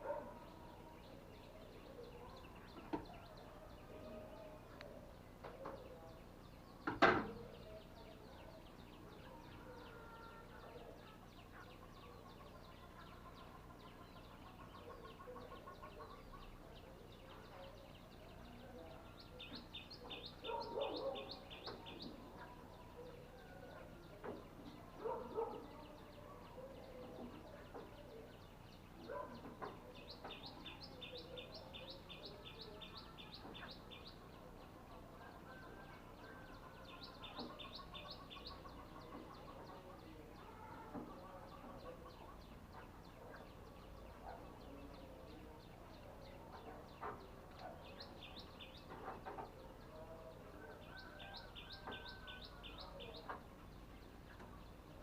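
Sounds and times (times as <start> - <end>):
small bird chirping: 0.0 - 55.0.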